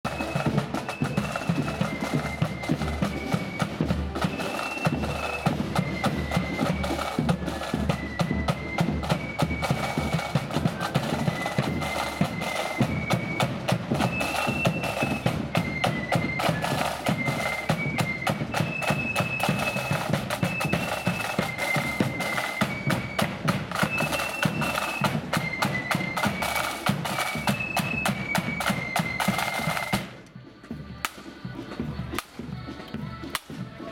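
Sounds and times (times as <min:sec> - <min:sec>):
flutes playing melody: 0:00.0 - 0:33.9.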